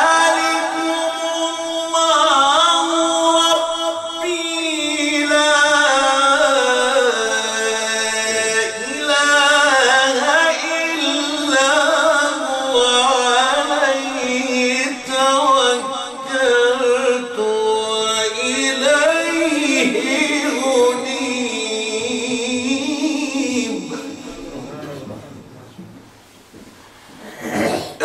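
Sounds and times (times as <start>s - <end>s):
man reciting melodically: 0.0s - 25.8s.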